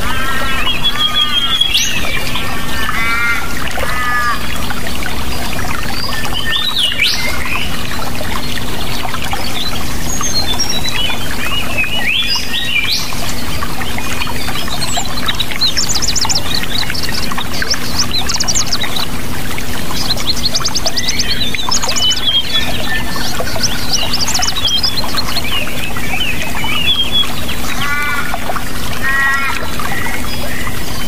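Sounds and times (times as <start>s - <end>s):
running water: 0.0s - 31.0s
songbirds chirping: 0.0s - 31.0s.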